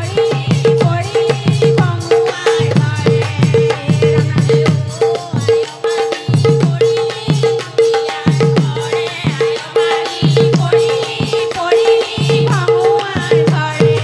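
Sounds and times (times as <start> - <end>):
barrel drum beat: 0.0 - 14.0
women singing in chorus: 0.0 - 14.0.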